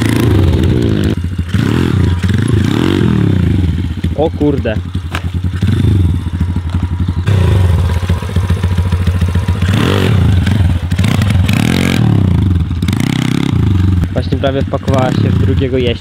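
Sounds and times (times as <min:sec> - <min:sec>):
small motorbike engines revving: 0:00.0 - 0:16.0.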